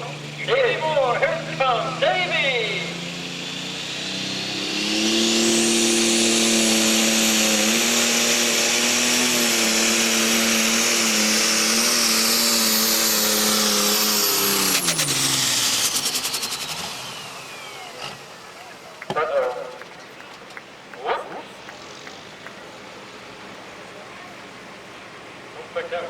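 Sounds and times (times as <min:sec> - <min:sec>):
diesel tractor engine revving: 0:00.0 - 0:26.0.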